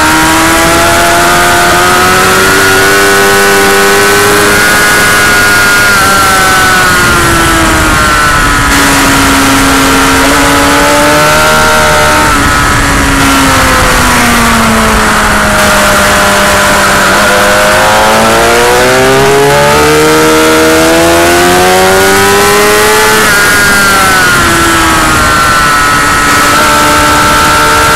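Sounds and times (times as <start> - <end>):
heavy wind noise: 0.0 - 27.9
motorcycle engine at speed: 0.0 - 27.9.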